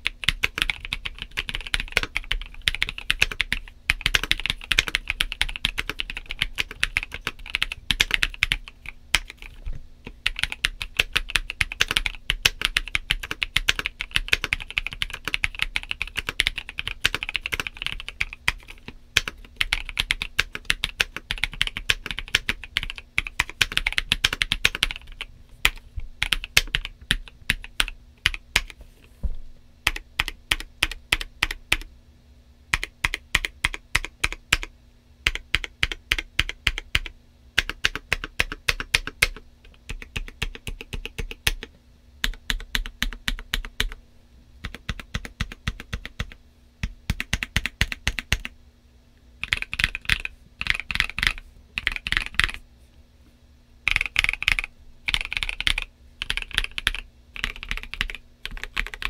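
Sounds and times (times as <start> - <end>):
typing on mechanical keyboard: 0.0 - 28.8, 29.8 - 31.9, 32.7 - 44.0, 44.6 - 46.4, 47.1 - 48.5, 49.4 - 52.6, 53.9 - 59.0.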